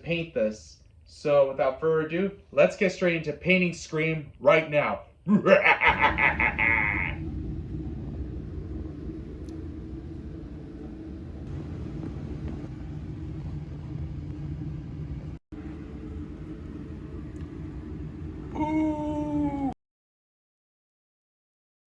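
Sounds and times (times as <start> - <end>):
steady low rumble: 0.0 - 19.8.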